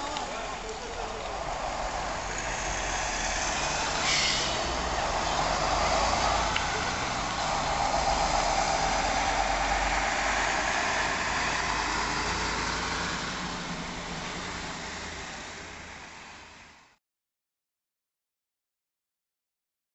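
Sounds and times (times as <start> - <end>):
dump truck engine passing: 0.0 - 16.9
road noise: 0.0 - 17.0.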